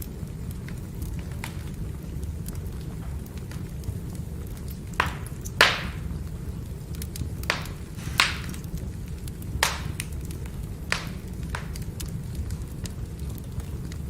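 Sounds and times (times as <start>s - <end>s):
firewood cracking and popping: 0.0s - 14.0s
wood fire burning: 0.0s - 14.0s.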